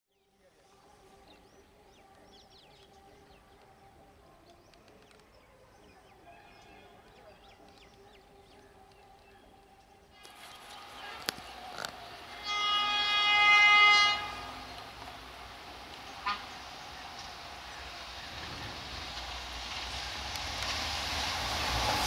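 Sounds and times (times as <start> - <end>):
faint birdsong: 0.1 - 19.0.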